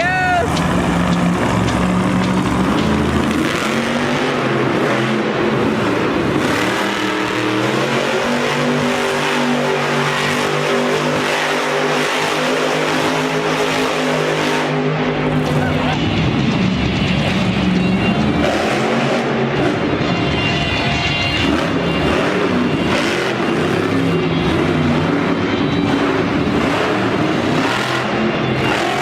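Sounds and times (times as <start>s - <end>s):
monster truck engine running loudly: 0.0s - 29.0s.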